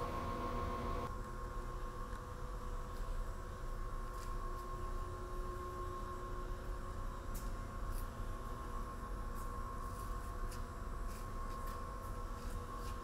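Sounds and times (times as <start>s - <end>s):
electrical hum: 0.0s - 13.0s
faint constant whine: 0.0s - 13.0s.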